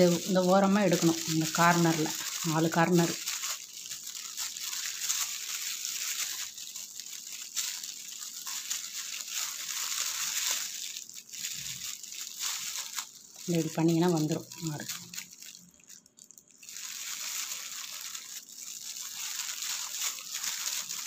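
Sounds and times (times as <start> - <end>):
plastic gloves crinkling: 0.0 - 21.0.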